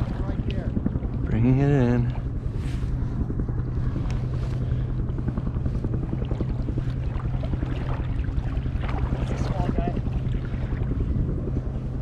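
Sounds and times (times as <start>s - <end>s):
low hum: 0.0s - 12.0s
wind rumbling on microphone: 0.0s - 12.0s.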